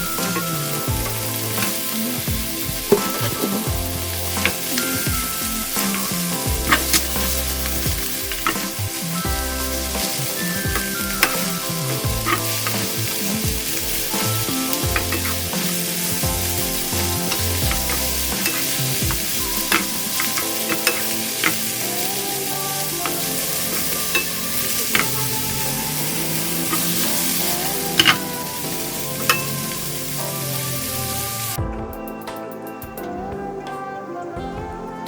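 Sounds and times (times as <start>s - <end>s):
food sizzling in a frying pan: 0.0s - 31.6s
background music with bass line: 0.0s - 35.0s.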